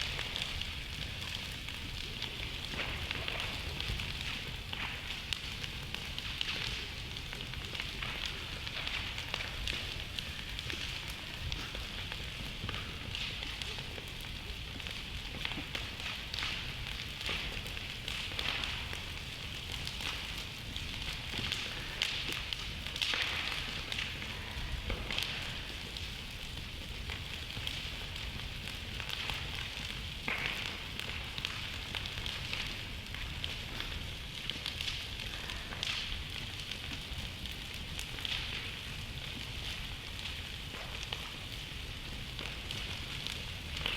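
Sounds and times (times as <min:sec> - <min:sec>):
campfire crackling and popping: 0:00.0 - 0:43.9
fire hissing: 0:00.0 - 0:43.9.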